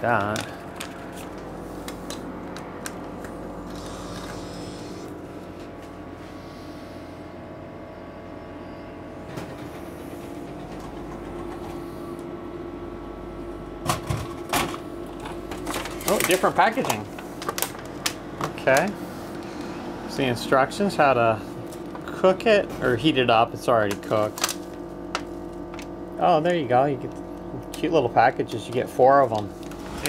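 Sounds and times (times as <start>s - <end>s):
delivery mechanism running: 0.0s - 6.2s, 8.3s - 27.0s
vending machine hum: 0.0s - 30.0s.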